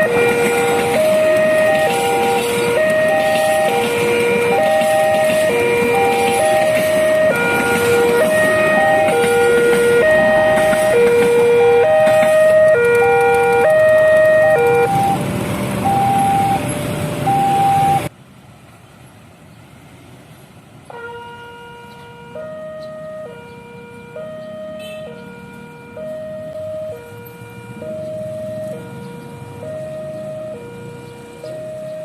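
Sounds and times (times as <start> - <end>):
level-crossing two-tone siren: 0.0 - 18.1, 20.9 - 32.0.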